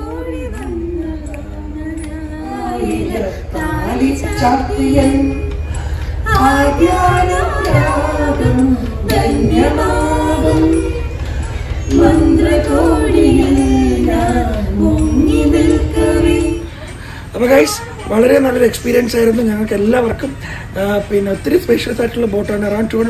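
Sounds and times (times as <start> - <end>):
man and woman singing: 0.0 - 21.0
steady low hum: 0.0 - 23.0.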